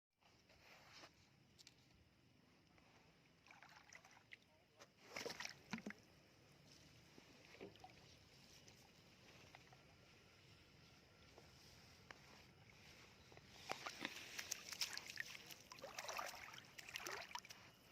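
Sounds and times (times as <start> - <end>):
water sloshing while wading: 3.2 - 17.9.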